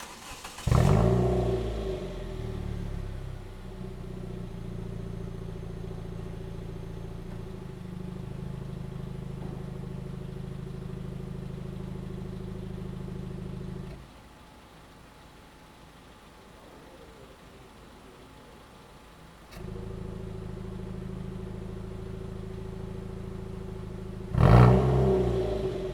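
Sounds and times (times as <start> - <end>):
car engine starting and idling: 0.0 - 16.4, 18.5 - 25.9.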